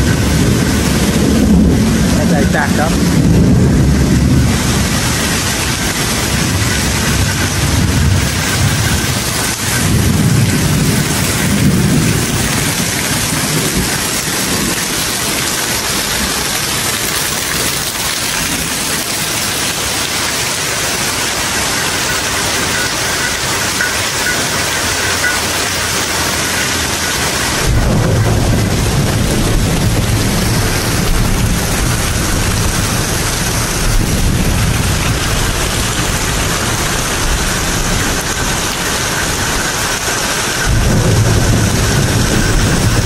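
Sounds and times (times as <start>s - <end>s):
low rumbling: 0.0s - 15.5s, 21.4s - 43.0s
heavy rain hissing: 0.0s - 43.0s
water streaming off roof: 0.0s - 43.0s.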